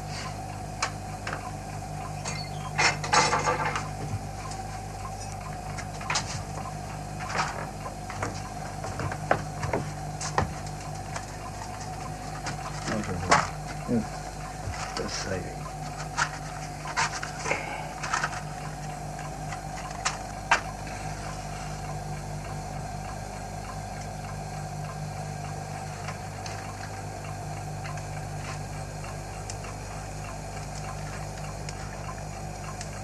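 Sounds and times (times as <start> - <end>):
low hum: 0.8 - 33.0
faint ticking: 3.8 - 33.0.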